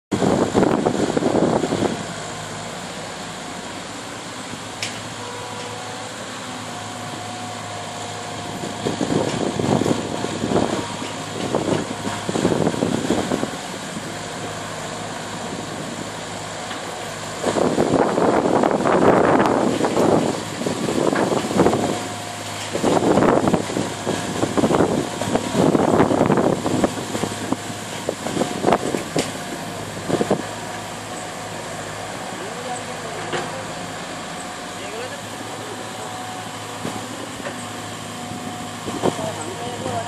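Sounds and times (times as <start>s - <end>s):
excavator diesel engine running: 0.1s - 40.0s.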